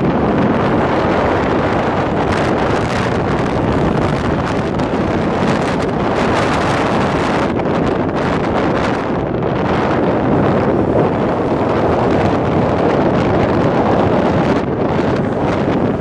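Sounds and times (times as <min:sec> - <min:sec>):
road noise: 0:00.0 - 0:16.0
traffic noise: 0:00.0 - 0:16.0
wind buffeting microphone: 0:00.0 - 0:16.0.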